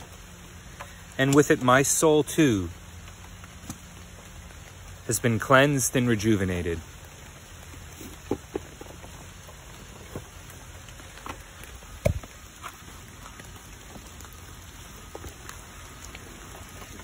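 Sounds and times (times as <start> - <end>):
boots dropped on wet asphalt: 0.0 - 17.0
rain pattering: 0.0 - 17.0.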